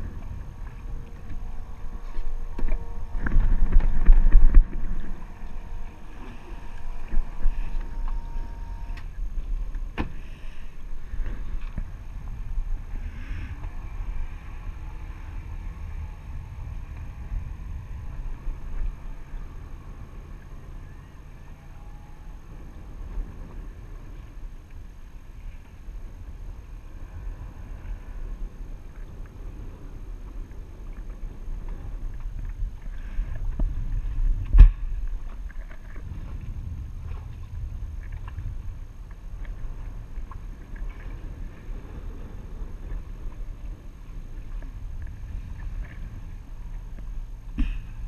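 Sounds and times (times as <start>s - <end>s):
jet ski engine tone: 0.0s - 48.0s
wind rumble on microphone: 0.0s - 48.0s.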